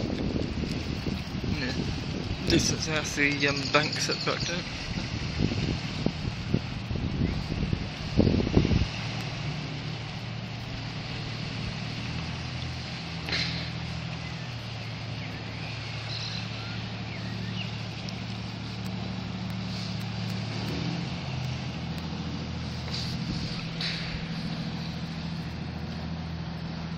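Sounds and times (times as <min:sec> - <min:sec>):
powerboat engine running: 0:00.0 - 0:26.9.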